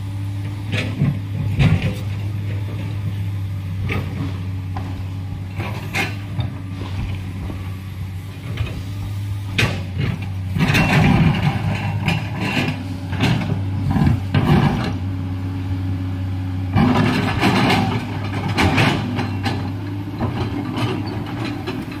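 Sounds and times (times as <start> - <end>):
excavator diesel engine humming: 0.0 - 22.0.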